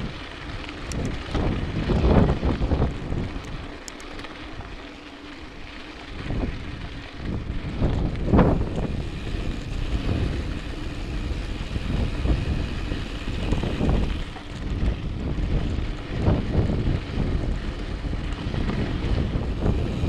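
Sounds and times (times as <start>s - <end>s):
wind buffeting microphone: 0.0s - 4.8s, 6.1s - 20.0s
bike jolting over bumps: 0.0s - 20.0s
tyres rumbling on dirt trail: 0.0s - 20.0s.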